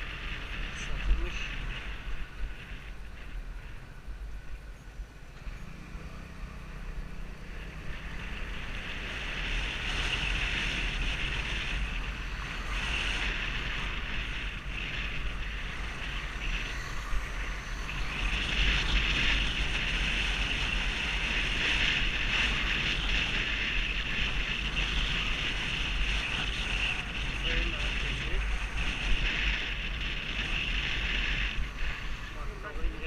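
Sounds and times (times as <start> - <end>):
wind on microphone: 0.0 - 5.4, 6.1 - 33.0.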